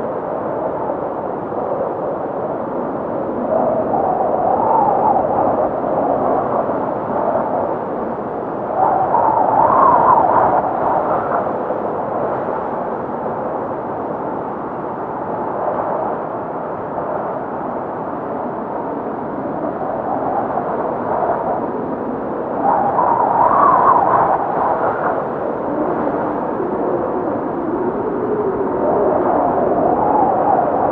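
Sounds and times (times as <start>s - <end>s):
blizzard wind howling: 0.0s - 30.9s.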